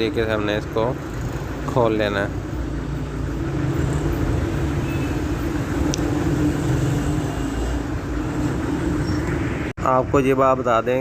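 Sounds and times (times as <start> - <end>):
engine hum: 0.0 - 9.7
road traffic rumble: 0.0 - 11.0.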